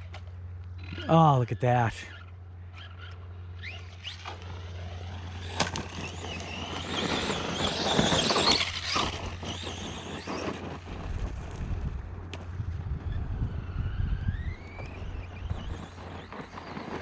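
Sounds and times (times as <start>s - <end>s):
electric motor revving whine: 2.1s - 17.0s.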